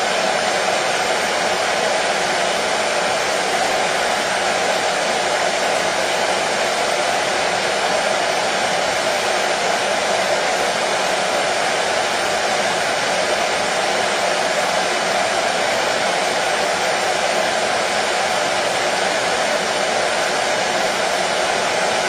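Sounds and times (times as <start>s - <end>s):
hair dryer running: 0.0s - 22.0s.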